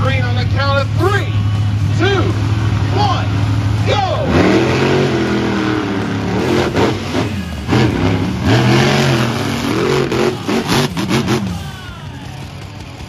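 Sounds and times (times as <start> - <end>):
truck engines revving hard: 0.0 - 13.0.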